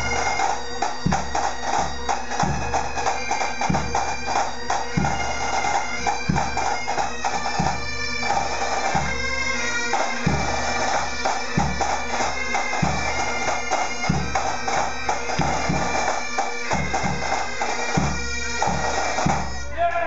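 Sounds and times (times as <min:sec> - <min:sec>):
bagpipes playing: 0:00.0 - 0:19.8.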